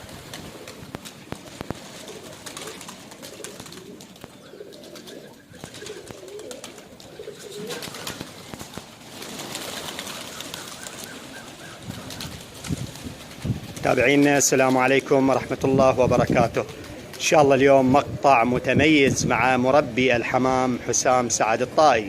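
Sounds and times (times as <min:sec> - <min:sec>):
pigeons cooing: 0:00.0 - 0:20.8.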